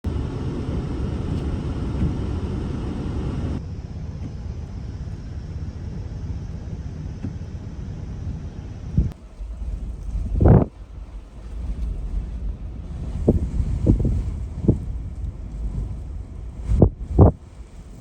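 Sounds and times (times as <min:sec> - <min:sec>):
wind buffeting microphone: 0:00.0 - 0:03.6, 0:04.4 - 0:18.0.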